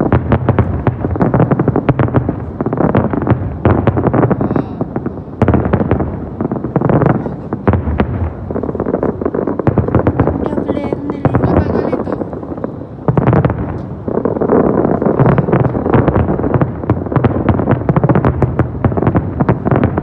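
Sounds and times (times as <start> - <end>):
deep rumble: 0.0 - 20.0
fireworks bangs and crackling: 0.0 - 20.0.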